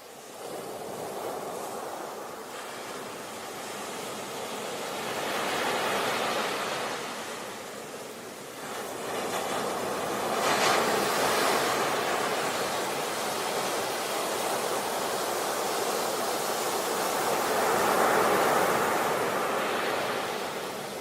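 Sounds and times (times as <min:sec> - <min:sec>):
ocean waves washing in: 0:00.0 - 0:21.0.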